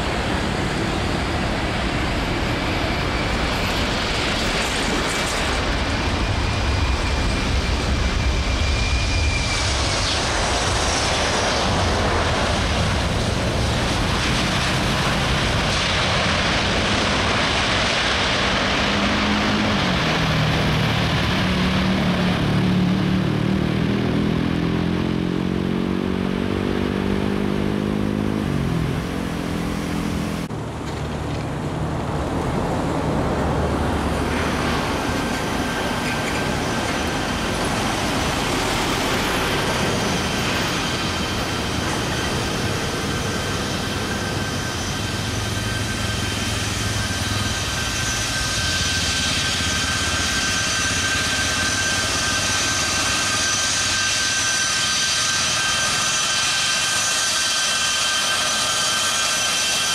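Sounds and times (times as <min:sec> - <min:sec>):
distant jet rumble: 0:00.0 - 0:55.5
jet engines roaring: 0:00.0 - 0:59.9.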